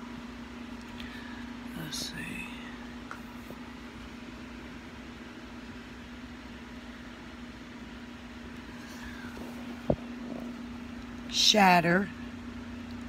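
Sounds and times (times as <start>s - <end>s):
air conditioner hum: 0.0s - 13.0s
fan hiss: 0.0s - 13.0s.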